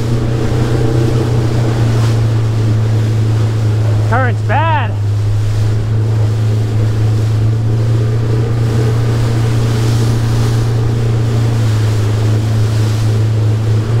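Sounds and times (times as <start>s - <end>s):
boat motor droning: 0.0s - 14.0s.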